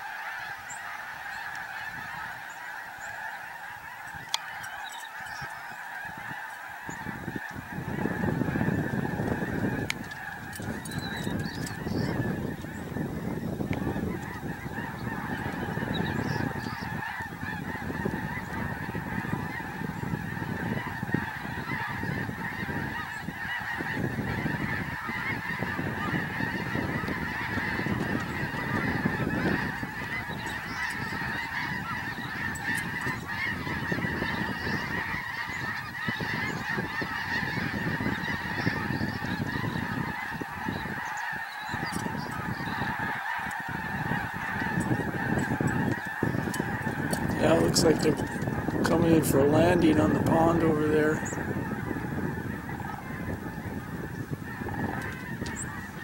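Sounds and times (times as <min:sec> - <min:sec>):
geese honking: 0:00.0 - 0:56.0.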